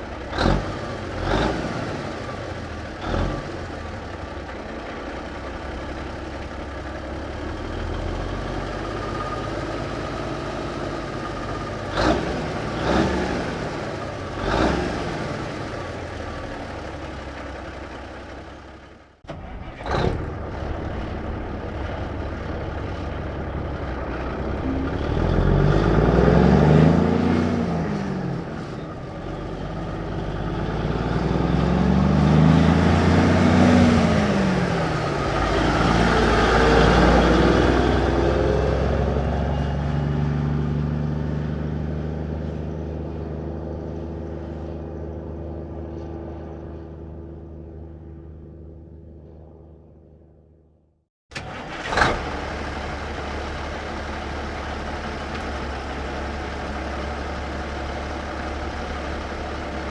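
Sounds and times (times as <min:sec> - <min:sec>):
truck engine starting and revving: 0:00.0 - 0:44.4, 0:51.3 - 0:59.9.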